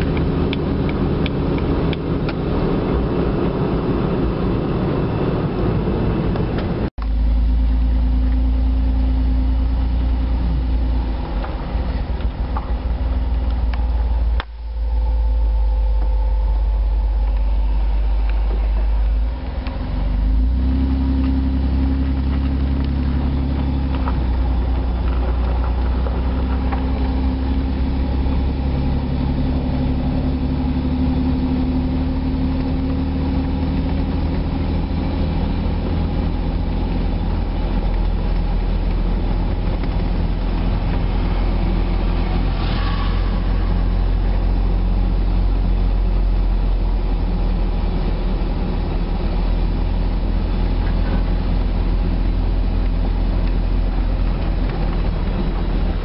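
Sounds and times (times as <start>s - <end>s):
vehicle engine and tyres droning: 0.0s - 56.0s.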